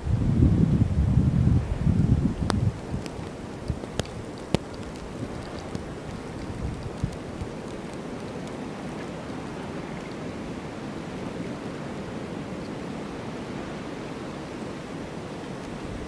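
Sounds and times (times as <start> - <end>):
strong blizzard wind: 0.0 - 16.0.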